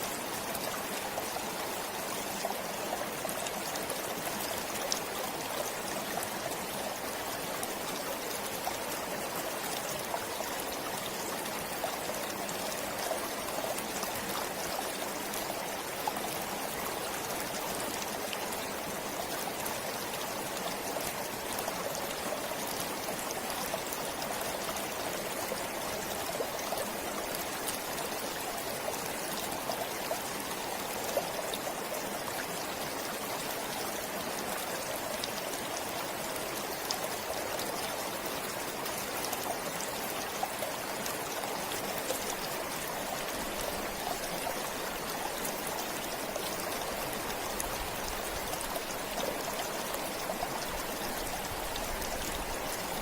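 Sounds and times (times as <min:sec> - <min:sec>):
stream flowing over stones: 0:00.0 - 0:53.0.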